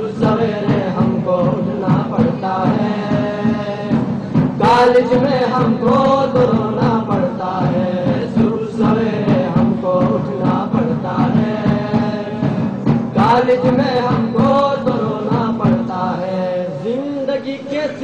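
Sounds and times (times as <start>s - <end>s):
percussion beat: 0.0s - 16.9s.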